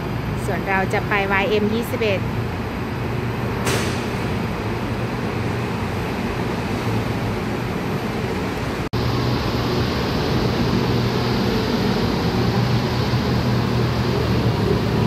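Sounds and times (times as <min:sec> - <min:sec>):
monorail train running: 0:00.0 - 0:15.0.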